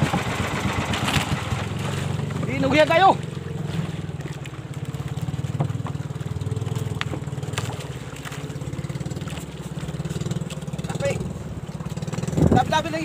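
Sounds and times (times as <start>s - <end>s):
boat motor puttering: 0.0s - 13.0s.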